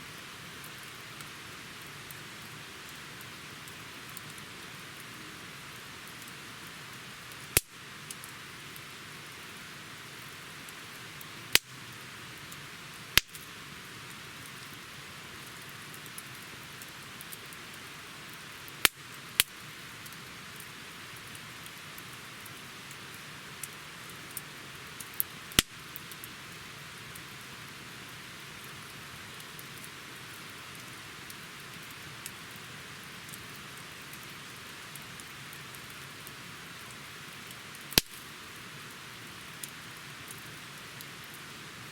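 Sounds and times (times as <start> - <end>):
campfire hissing: 0.0 - 41.9
fire crackling pops: 0.0 - 41.9.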